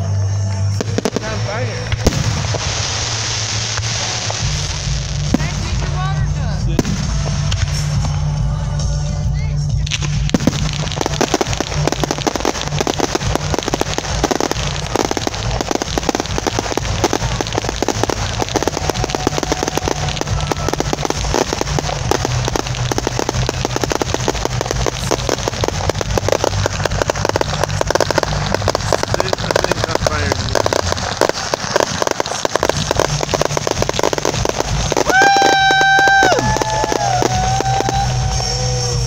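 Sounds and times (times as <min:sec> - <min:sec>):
fireworks crackling and popping: 0:00.0 - 0:39.0
low rumble: 0:00.0 - 0:39.0.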